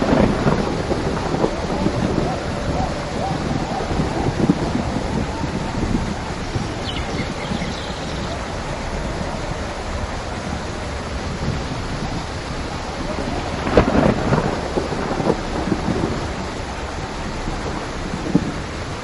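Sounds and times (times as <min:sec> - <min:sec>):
heavy rain: 0:00.0 - 0:19.0
thunderclap crackling: 0:00.0 - 0:19.0.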